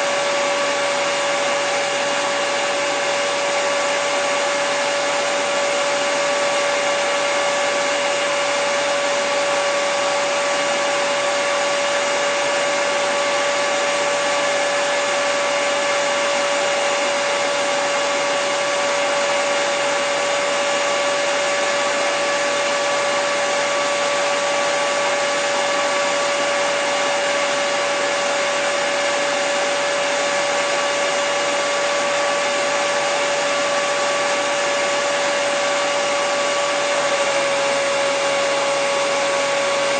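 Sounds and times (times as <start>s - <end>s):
hairdryer blowing air: 0.0s - 39.9s
hairdryer motor whine: 0.0s - 39.9s.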